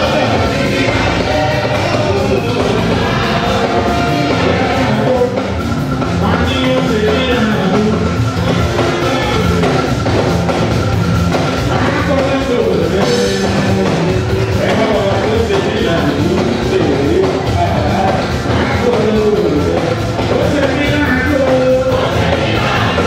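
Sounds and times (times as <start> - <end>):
band music with drums and bass: 0.0 - 23.0
voices singing: 0.0 - 23.0.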